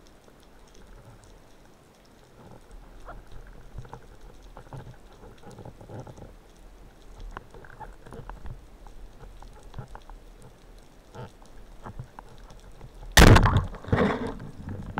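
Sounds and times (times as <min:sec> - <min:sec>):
faint underwater clicks: 0:00.0 - 0:14.9
low underwater knocks and crackles: 0:00.0 - 0:14.9.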